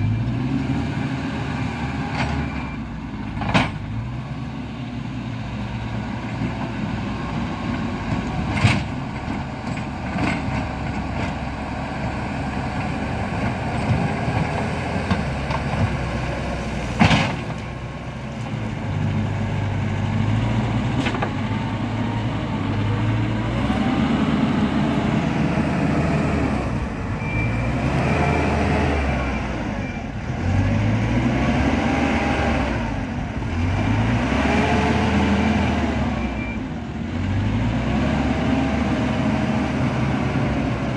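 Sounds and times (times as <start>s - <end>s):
heavy diesel machinery working: 0.0s - 40.9s.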